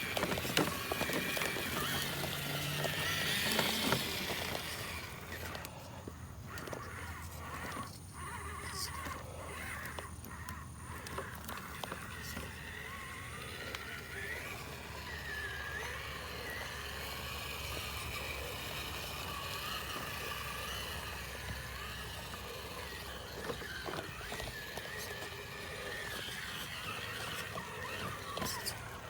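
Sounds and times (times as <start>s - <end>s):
clicks and knocks of toy truck: 0.0s - 5.8s, 6.5s - 29.0s
electric motor whining: 0.0s - 29.0s.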